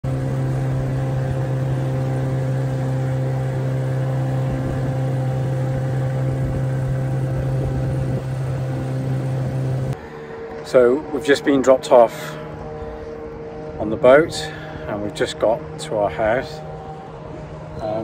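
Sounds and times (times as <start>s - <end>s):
outboard motor humming: 0.0s - 18.0s.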